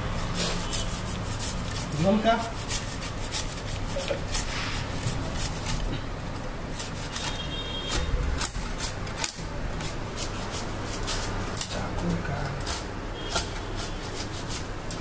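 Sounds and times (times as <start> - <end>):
cleaver scraping fish skin: 0.1 - 15.0.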